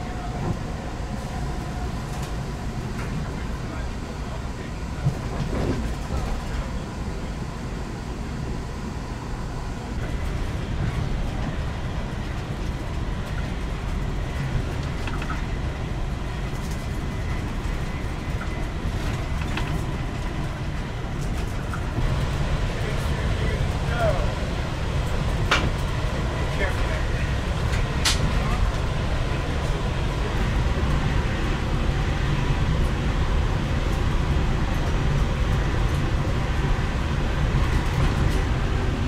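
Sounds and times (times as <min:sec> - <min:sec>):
train running rumble: 0:00.0 - 0:39.0.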